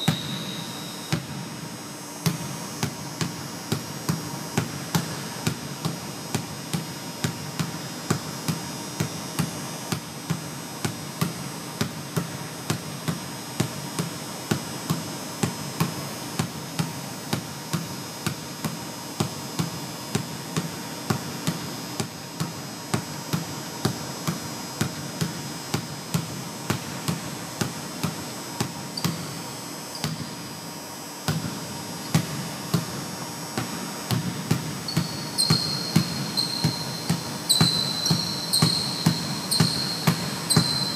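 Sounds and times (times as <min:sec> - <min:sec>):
basketball bouncing on wooden floor: 0:00.0 - 0:01.4, 0:02.2 - 0:29.4, 0:30.0 - 0:30.3, 0:31.3 - 0:33.0, 0:33.6 - 0:40.9.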